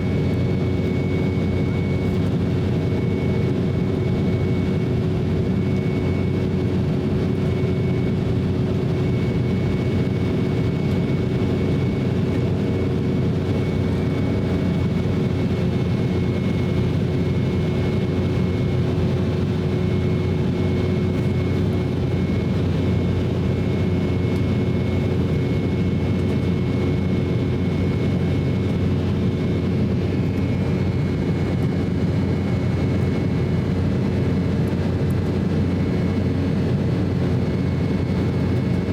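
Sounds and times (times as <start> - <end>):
airliner cabin engine drone: 0.0 - 38.9
constant hum: 0.0 - 38.9.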